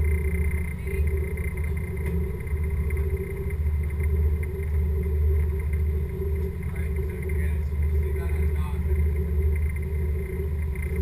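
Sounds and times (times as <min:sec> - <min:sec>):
diesel boat engines rumbling: 0:00.0 - 0:11.0
faint hum: 0:00.0 - 0:11.0.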